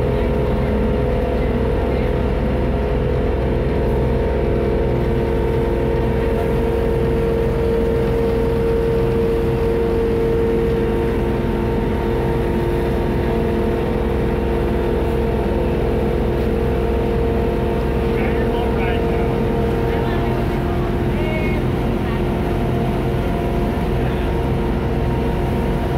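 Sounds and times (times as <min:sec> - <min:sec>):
boat engine drone: 0:00.0 - 0:25.9.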